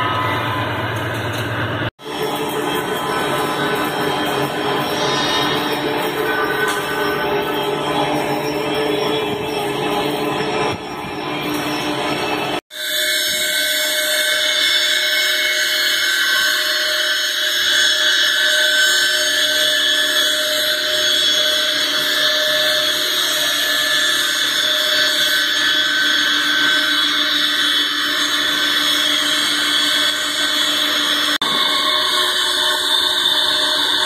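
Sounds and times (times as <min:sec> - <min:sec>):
lathe cutting steel whine: 0:00.0 - 0:34.0.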